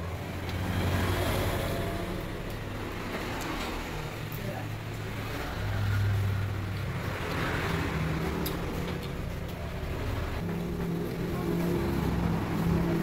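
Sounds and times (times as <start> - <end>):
passing road traffic: 0.0 - 13.0.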